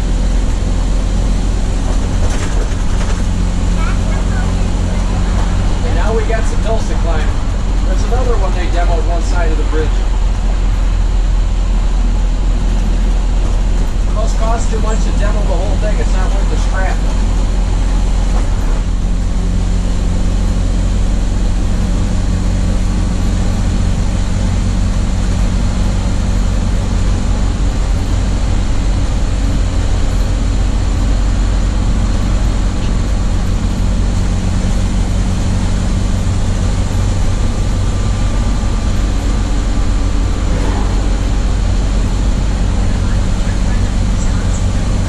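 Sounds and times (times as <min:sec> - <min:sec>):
bus engine droning: 0:00.0 - 0:45.0
road and wind noise: 0:00.0 - 0:45.0.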